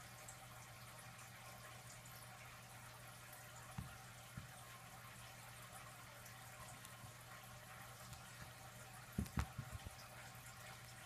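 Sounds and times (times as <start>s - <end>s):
faint low hum and hiss: 0.0s - 11.0s.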